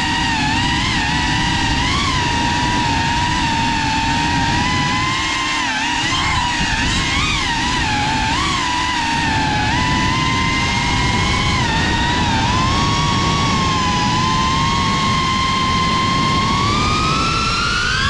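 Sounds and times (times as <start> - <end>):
drone motors whining: 0.0 - 18.0
rush of wind: 0.0 - 18.0.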